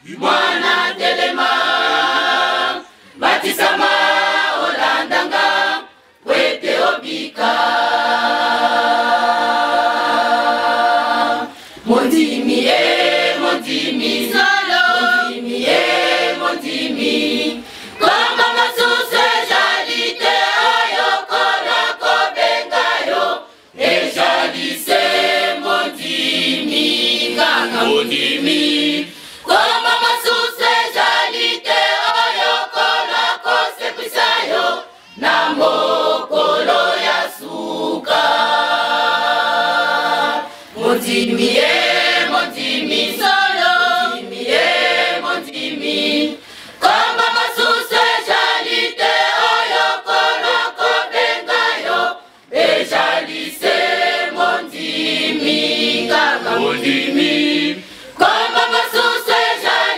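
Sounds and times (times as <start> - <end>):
women's choir singing unaccompanied: 0.0 - 59.9.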